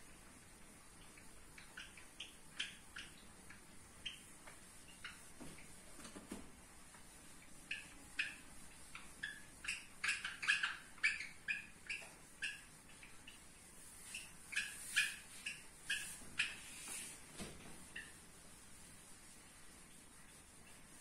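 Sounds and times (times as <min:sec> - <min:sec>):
whiteboard eraser squeaking: 0:01.0 - 0:05.8, 0:07.2 - 0:21.0.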